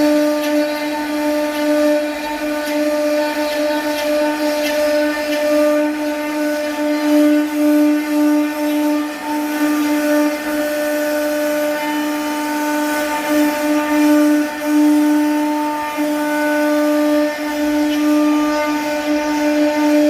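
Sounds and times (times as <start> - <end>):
router spindle cutting wood: 0.0 - 20.0.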